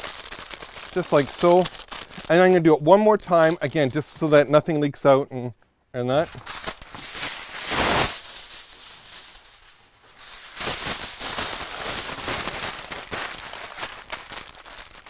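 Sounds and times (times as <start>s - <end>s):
foil ripping off roll: 0.0s - 4.0s, 6.2s - 15.0s
foil crinkling: 0.0s - 4.4s, 6.1s - 15.0s.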